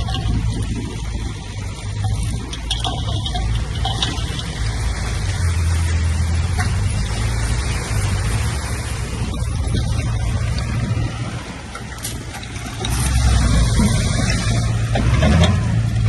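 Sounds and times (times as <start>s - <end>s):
heavy diesel machinery drone: 0.0s - 16.0s.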